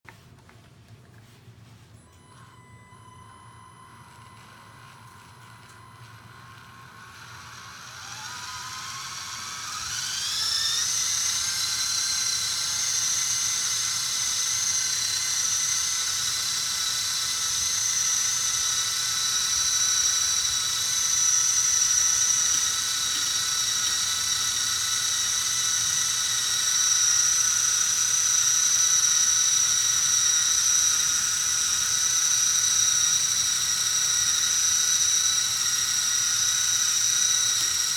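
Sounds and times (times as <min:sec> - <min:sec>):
small electric motor whining: 0:02.1 - 0:37.9.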